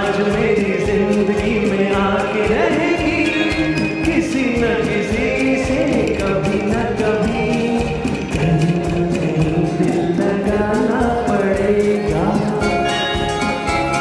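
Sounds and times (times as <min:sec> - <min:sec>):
man singing into microphone: 0:00.0 - 0:13.5
instrumental music with steady beat: 0:00.0 - 0:14.0.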